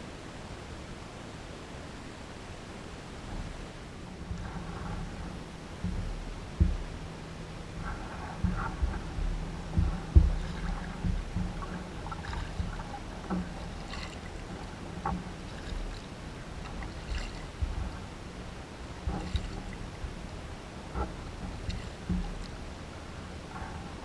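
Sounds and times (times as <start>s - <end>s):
paddle splashes: 3.1s - 24.0s
paddle knocking against hull: 4.1s - 24.0s.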